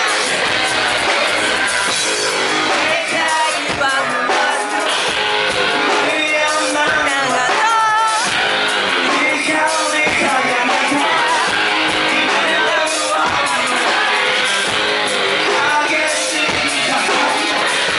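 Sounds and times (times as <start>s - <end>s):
electric guitar: 0.0s - 17.9s
live rock band playing: 0.0s - 17.9s
person singing: 0.0s - 17.9s.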